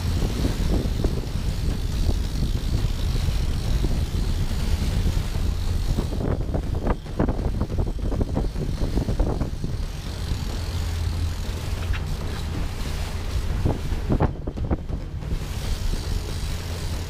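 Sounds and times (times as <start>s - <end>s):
boat engine running: 0.0s - 17.0s
water rushing past hull: 0.0s - 17.0s
wind on microphone: 0.0s - 17.0s.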